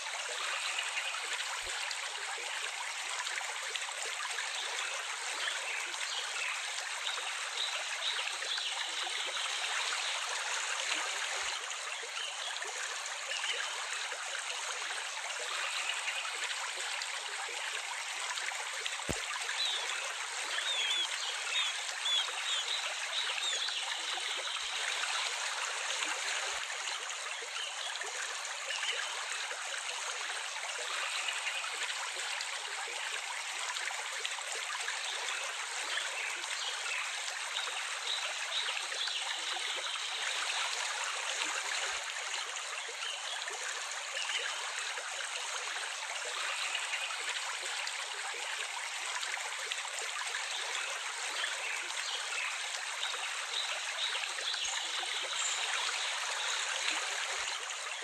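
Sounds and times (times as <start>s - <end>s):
stream of water trickling: 0.0s - 58.0s.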